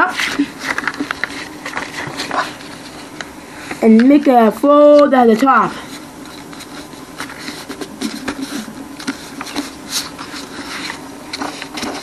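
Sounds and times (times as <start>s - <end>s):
cardboard rustling and scraping: 0.0s - 4.2s, 5.9s - 12.0s.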